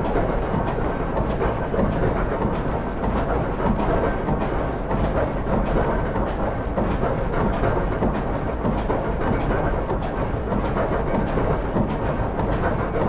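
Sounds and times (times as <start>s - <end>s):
stationary engine rumbling and knocking: 0.0s - 13.0s.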